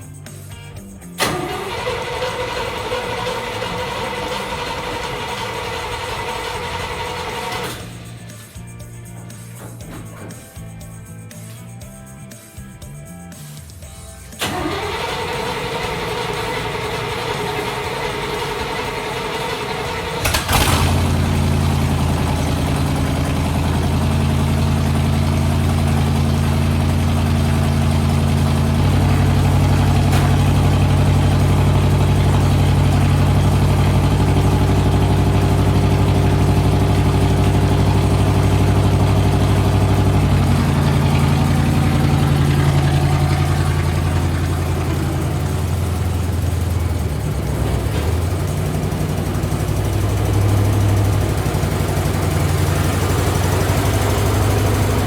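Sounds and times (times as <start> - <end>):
pickup truck engine running: 0.0 - 55.0.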